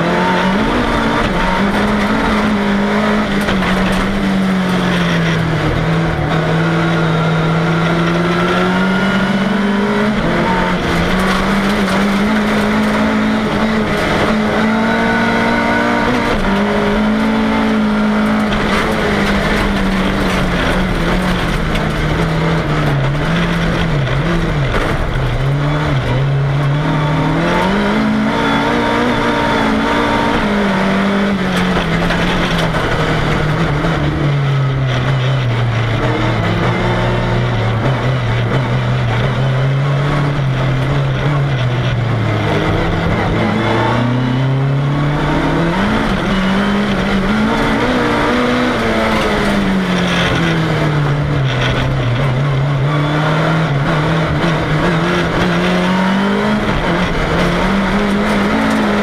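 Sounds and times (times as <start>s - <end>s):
car engine racing: 0.0s - 59.0s.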